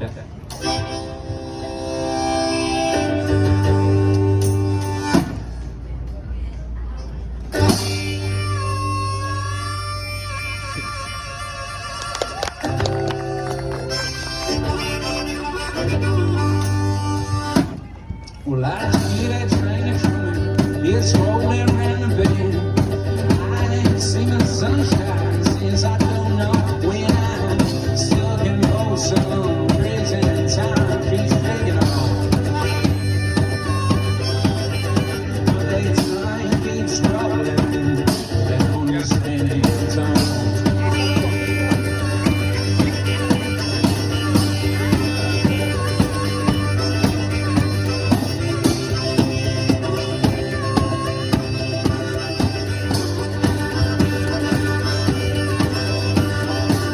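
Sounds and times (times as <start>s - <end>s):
one-man band playing country music: 0.0s - 5.6s, 7.5s - 17.9s, 18.6s - 56.9s.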